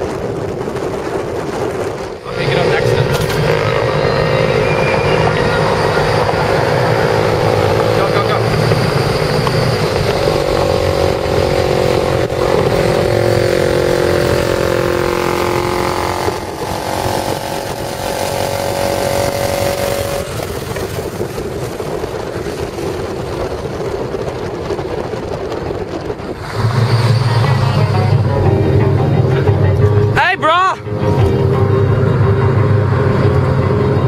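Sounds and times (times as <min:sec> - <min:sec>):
dirt bike engine running: 0:00.0 - 0:34.0
steady rushing noise: 0:00.0 - 0:34.0.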